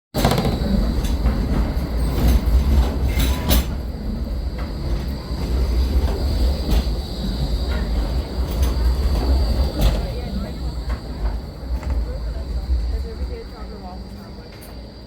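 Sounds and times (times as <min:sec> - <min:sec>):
train rumbling on rails: 0:00.1 - 0:15.0
wheels clicking over rail joints: 0:00.1 - 0:15.0.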